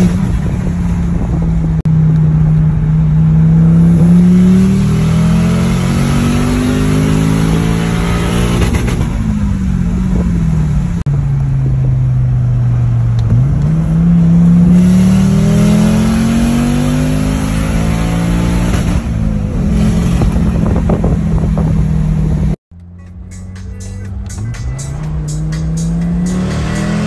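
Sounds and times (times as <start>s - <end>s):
car engine running hard: 0.0s - 27.0s.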